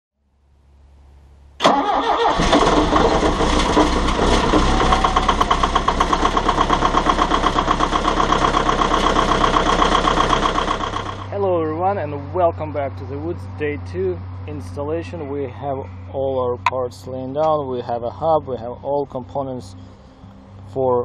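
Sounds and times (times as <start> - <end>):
diesel engine starting and idling: 1.6 - 20.2.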